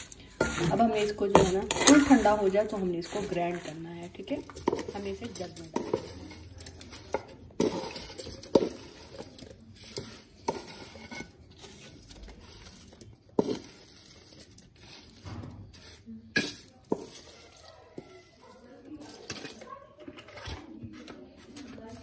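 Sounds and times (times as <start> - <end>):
spoon scraping a metal pan: 0.0 - 22.0
wet sliding of chillies: 0.0 - 22.0.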